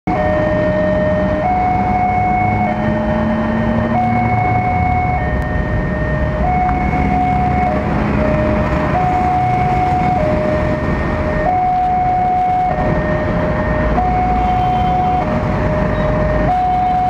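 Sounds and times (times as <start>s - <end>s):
two-tone level crossing alarm: 0.1s - 17.0s
passing train rumble: 0.2s - 17.0s.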